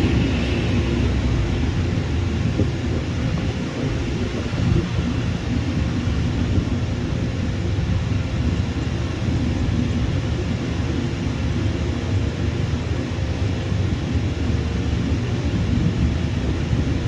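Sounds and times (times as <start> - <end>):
jet airliner engines: 0.0 - 17.0.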